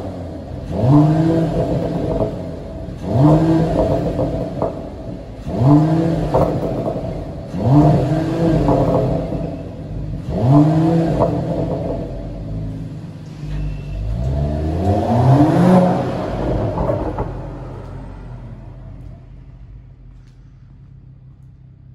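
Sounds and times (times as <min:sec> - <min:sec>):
car engine revving: 0:00.0 - 0:21.8.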